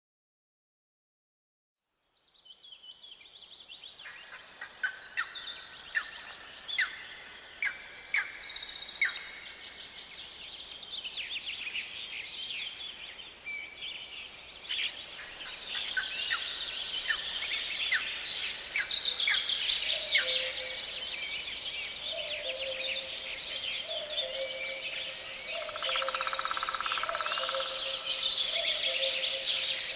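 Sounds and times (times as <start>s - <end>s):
songbirds chirping and trilling: 1.9s - 29.9s.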